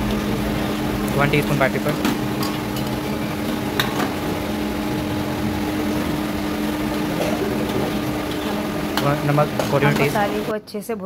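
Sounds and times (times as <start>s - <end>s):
gas burner on high flame: 0.0s - 10.5s
kitchen ventilation hum: 0.0s - 11.0s.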